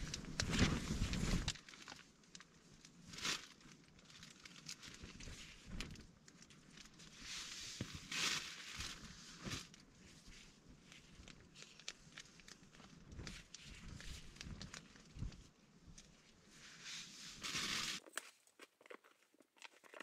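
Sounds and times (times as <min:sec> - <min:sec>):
packaging crinkling and tearing: 0:00.0 - 0:16.1, 0:17.4 - 0:20.0.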